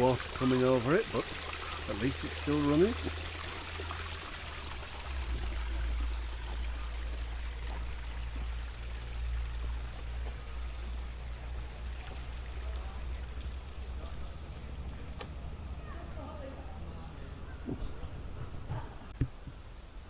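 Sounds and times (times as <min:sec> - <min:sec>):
small waterfall splashing: 0:00.0 - 0:16.4
steady low rumble: 0:03.0 - 0:19.2.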